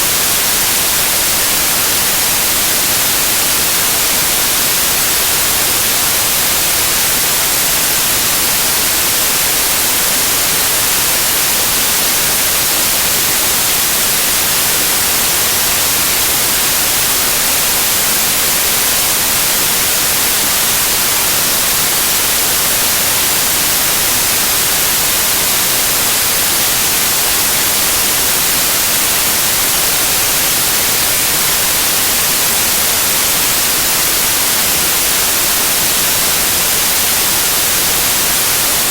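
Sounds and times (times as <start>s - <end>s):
loud white noise hiss: 0.0s - 38.9s.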